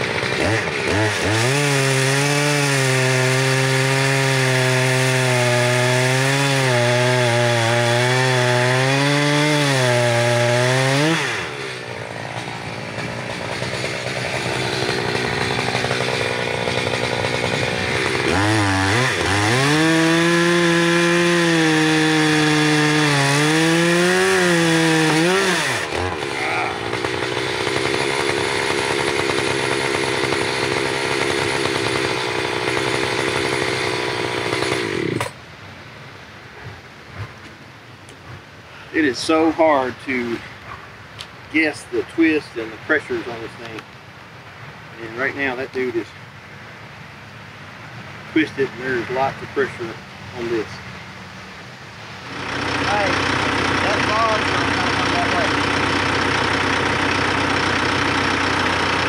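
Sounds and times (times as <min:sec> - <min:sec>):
chainsaw cutting log: 0:00.0 - 0:35.4, 0:41.2 - 0:43.9, 0:45.0 - 0:46.1, 0:48.4 - 0:50.7, 0:52.2 - 0:59.0.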